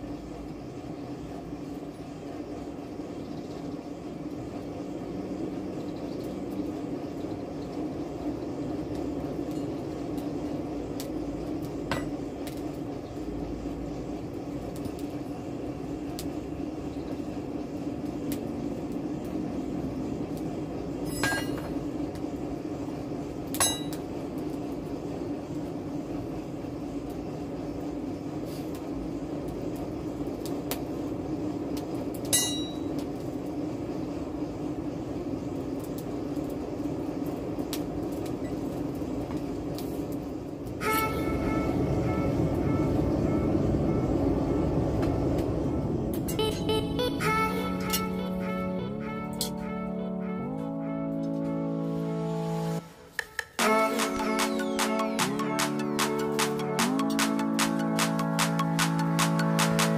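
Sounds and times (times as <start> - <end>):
forge air blast humming: 0.0 - 59.9.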